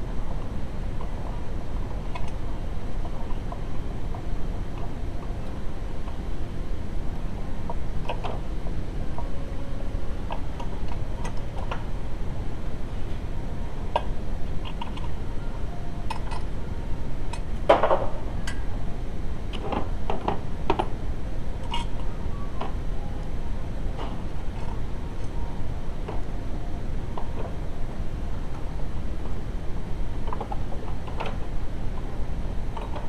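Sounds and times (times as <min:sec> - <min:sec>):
steady low rumble: 0:00.0 - 0:32.8.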